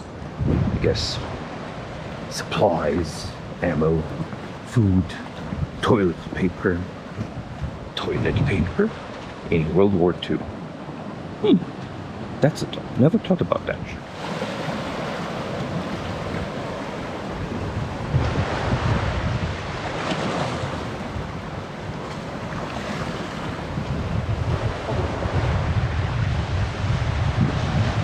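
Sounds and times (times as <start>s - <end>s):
sea waves on shore: 0.0s - 28.0s
wind buffeting microphone: 0.0s - 28.0s.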